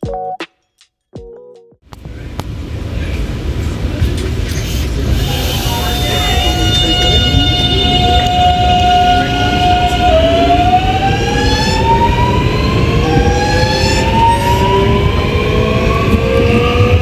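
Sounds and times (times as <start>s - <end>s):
low rumble of running train: 1.9s - 17.0s
train traction inverter whining: 1.9s - 17.0s.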